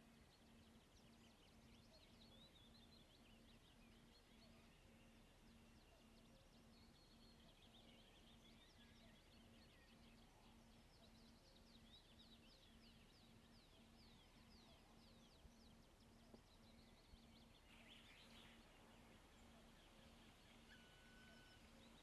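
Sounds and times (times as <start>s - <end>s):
faint high bird chirps: 0.0s - 22.0s
faint pulsing low hum: 0.0s - 22.0s.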